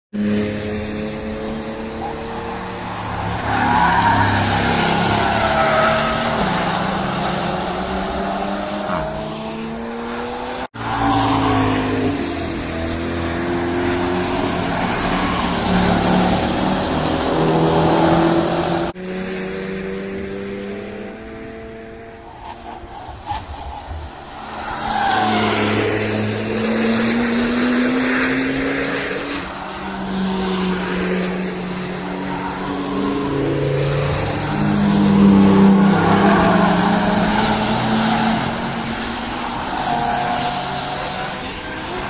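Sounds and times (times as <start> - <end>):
race car engines revving: 0.1 - 42.0.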